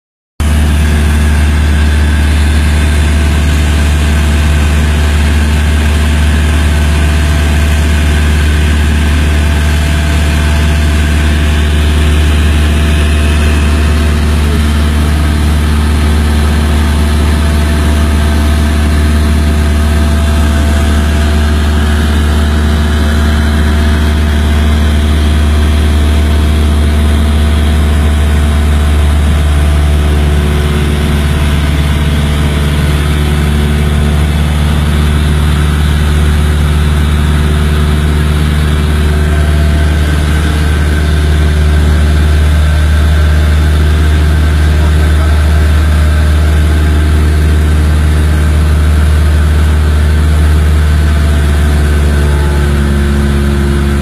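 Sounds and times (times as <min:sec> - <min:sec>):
engine drone: 0:00.4 - 0:54.0.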